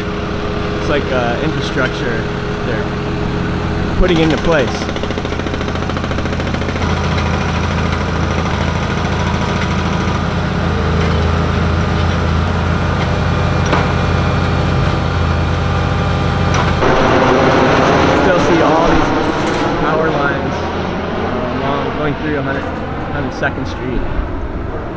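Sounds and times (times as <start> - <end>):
heavy machinery diesel engine: 0.0 - 24.9.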